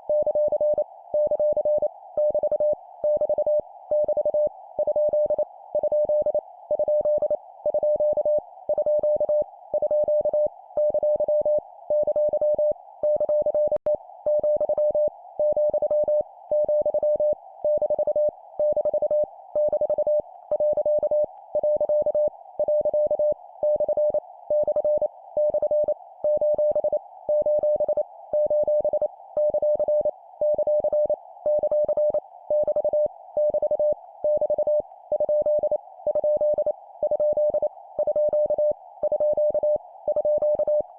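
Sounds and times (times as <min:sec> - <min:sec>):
morse code beeps: 0:00.1 - 0:40.8.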